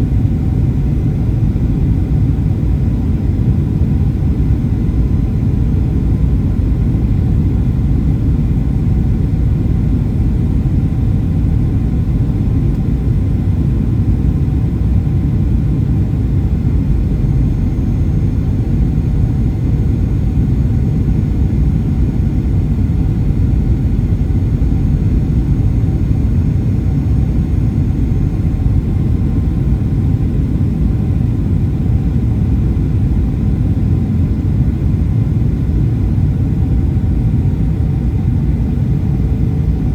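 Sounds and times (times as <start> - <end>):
airliner cabin engine rumble: 0.0 - 39.9
faint steady whines: 0.0 - 39.9.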